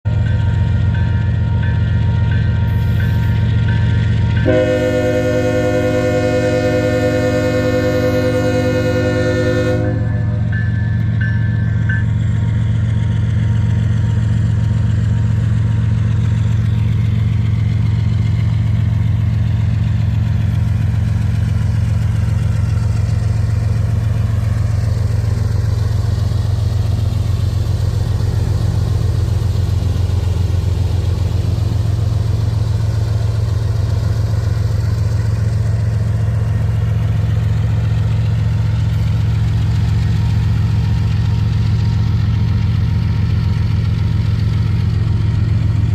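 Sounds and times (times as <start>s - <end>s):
diesel locomotive engine drone: 0.0s - 45.9s.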